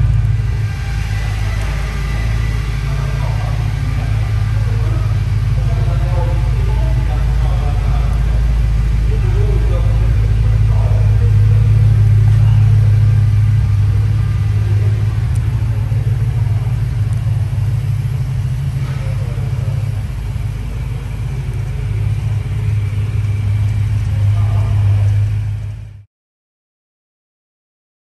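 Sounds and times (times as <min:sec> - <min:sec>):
car engine idling: 0:00.0 - 0:26.1.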